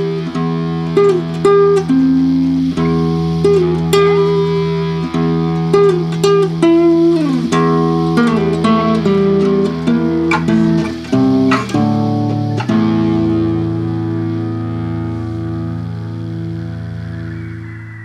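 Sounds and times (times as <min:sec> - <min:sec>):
held low guitar notes: 0:00.0 - 0:18.0
plucked guitar melody: 0:00.0 - 0:18.0.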